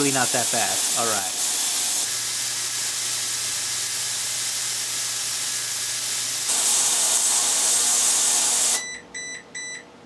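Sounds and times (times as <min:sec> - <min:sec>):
ultrasonic cleaner vibrating hiss: 0:00.0 - 0:08.8.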